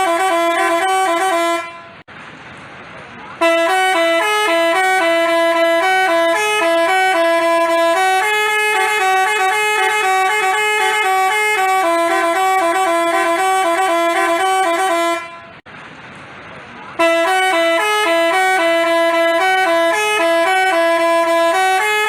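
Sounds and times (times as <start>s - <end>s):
multi-tone bus horn melody: 0.0s - 2.1s, 3.4s - 15.6s, 16.9s - 22.0s.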